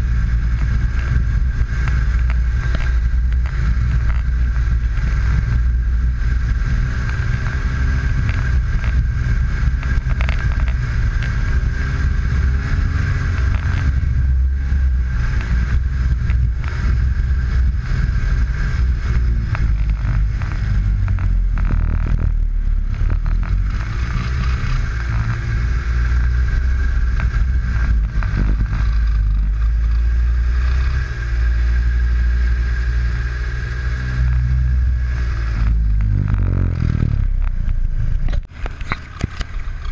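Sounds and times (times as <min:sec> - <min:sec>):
high whine: 0:00.0 - 0:39.9
snowmobile engine: 0:00.0 - 0:39.9.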